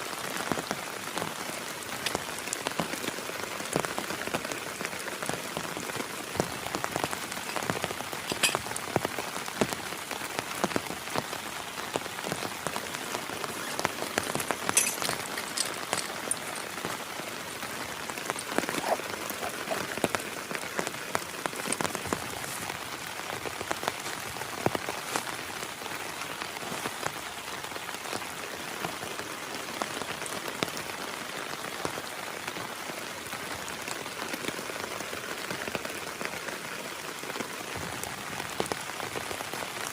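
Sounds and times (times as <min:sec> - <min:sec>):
heavy rain: 0:00.0 - 0:39.9
raindrops tapping: 0:00.0 - 0:39.9.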